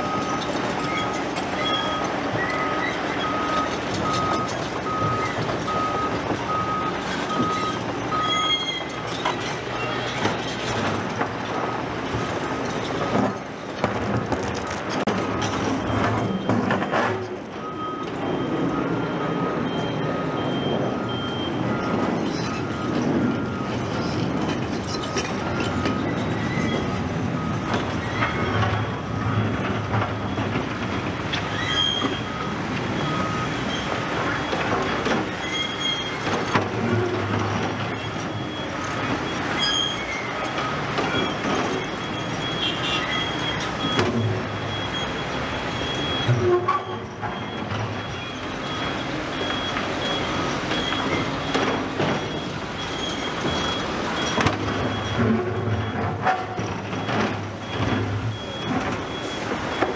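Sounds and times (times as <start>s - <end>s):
diesel engines rumbling: 0.0s - 59.9s
reversing alarms beeping: 0.0s - 59.9s.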